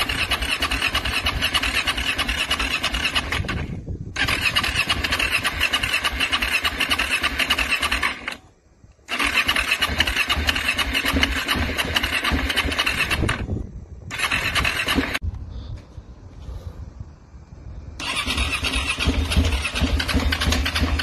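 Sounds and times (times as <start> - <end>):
motorcycle electric starter cranking: 0.0 - 15.2, 18.0 - 21.0.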